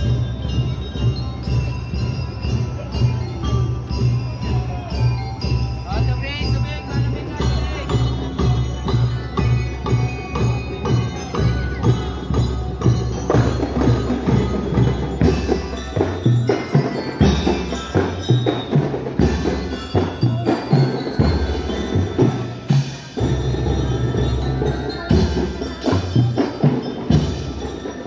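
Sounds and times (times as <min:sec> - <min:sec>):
bell lyre melody: 0:00.0 - 0:28.0
marching band drums: 0:00.0 - 0:28.0.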